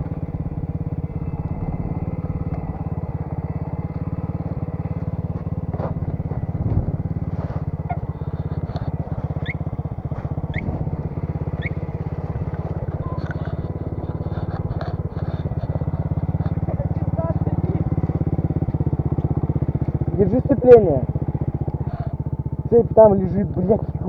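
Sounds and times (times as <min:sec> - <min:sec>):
motorcycle engine running steadily: 0:00.0 - 0:24.0.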